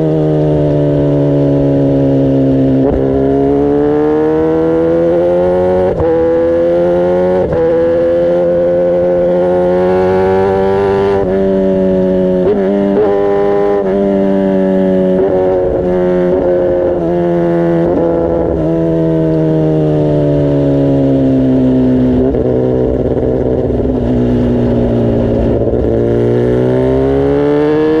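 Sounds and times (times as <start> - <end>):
motorcycle engine revving through gears: 0.0 - 28.0.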